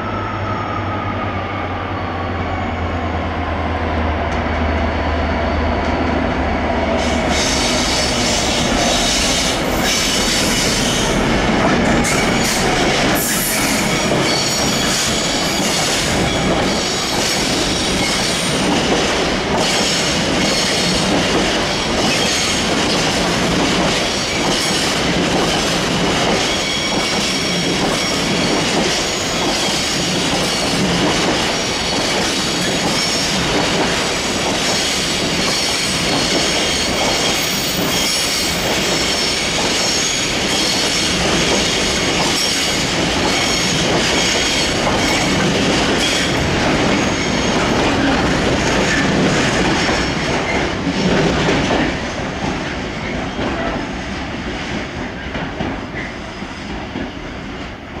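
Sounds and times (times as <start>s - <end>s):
train wheels clattering on rails: 5.6s - 58.0s.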